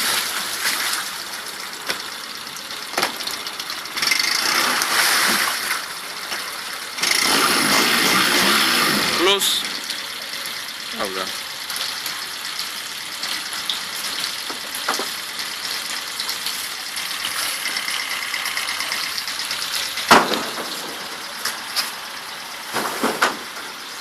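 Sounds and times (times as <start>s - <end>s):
outboard motor idling: 0.0s - 24.0s.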